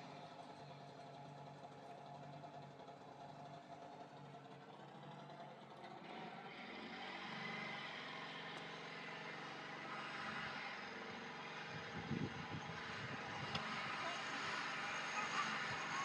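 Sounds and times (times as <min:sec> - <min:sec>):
motor running steadily: 0:00.0 - 0:16.0.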